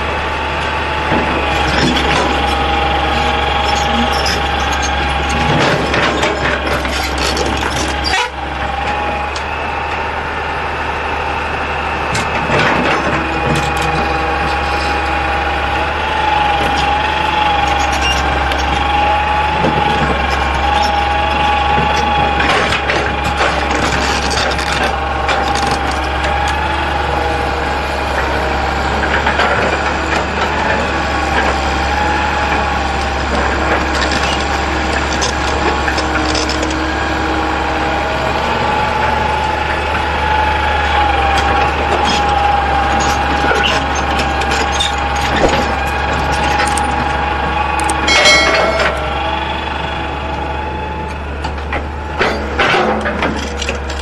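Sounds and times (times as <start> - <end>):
heavy machinery whining and droning: 0.0 - 54.0.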